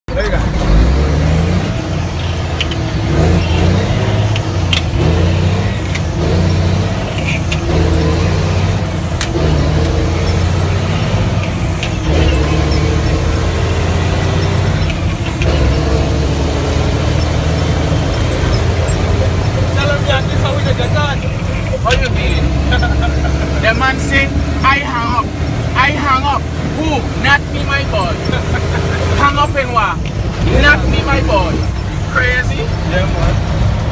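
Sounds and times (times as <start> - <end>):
truck diesel engine running: 0.1 - 33.9.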